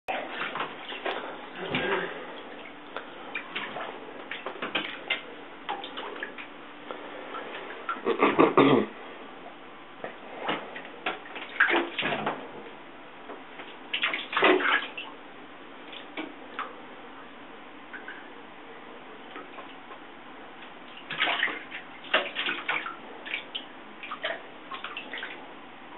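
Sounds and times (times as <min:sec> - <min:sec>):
water splashing in a bathtub: 0:00.1 - 0:25.9.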